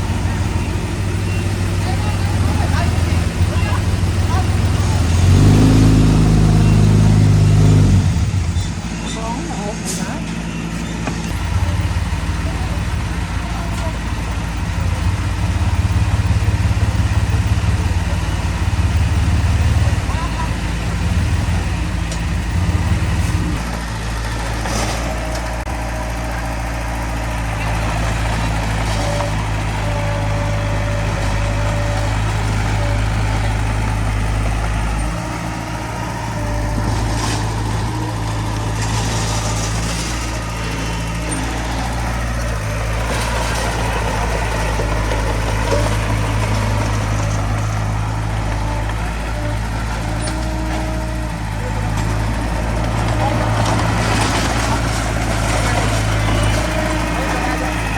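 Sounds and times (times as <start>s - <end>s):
heavy machinery diesel engines: 0.0s - 57.9s.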